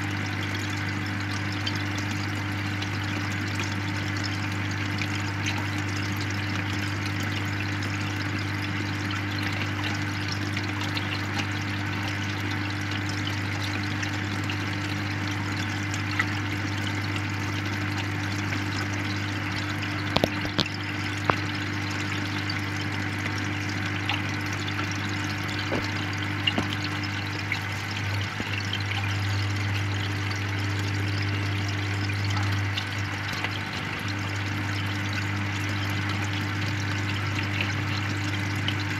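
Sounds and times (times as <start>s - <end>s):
air pump humming: 0.0s - 38.9s
airstone bubbling in water: 0.0s - 38.9s.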